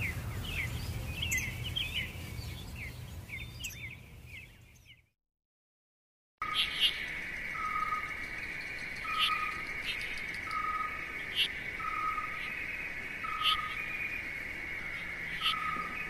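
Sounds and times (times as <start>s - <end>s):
bird chirps: 0.0s - 5.1s, 6.4s - 16.0s.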